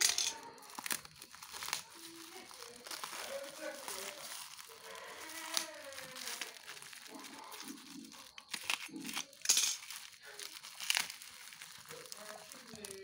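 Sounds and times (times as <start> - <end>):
plastic bag and bubble wrap crinkling: 0.0 - 13.0
plastic ripping: 0.0 - 13.0.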